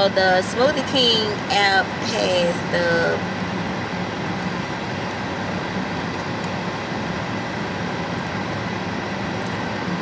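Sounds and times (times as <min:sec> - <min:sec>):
car air-conditioning blower hum: 0:00.0 - 0:10.0.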